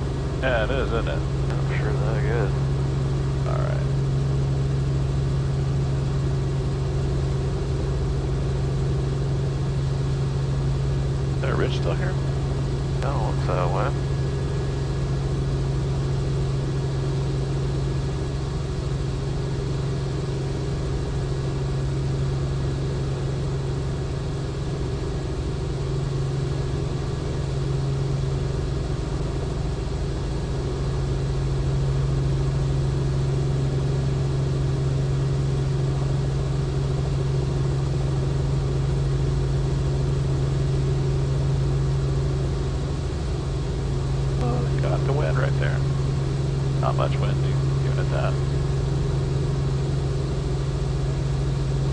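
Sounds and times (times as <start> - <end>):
helicopter engine and rotors droning: 0.0 - 51.9.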